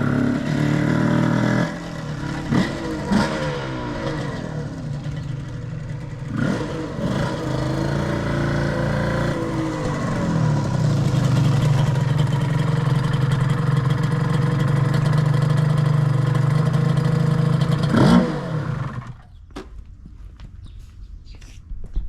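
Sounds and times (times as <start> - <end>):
motorcycle engine revving: 0.0 - 19.4
two-stroke motorcycle engine running: 0.0 - 19.4.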